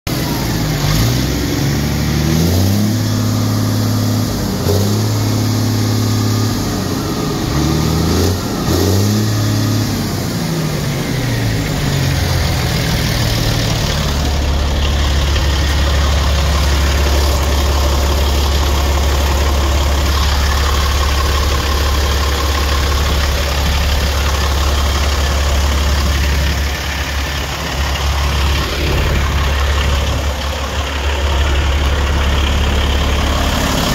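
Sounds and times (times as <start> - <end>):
diesel engine idling: 0.1 - 33.9
diesel truck engine revving: 0.1 - 33.9.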